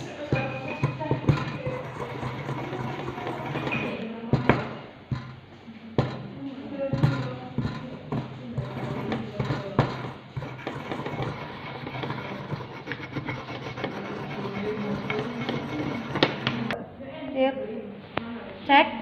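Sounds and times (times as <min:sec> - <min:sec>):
pestle knocking against bowl: 0:00.0 - 0:05.4, 0:06.9 - 0:16.8
pestle scraping in mortar: 0:00.0 - 0:16.8.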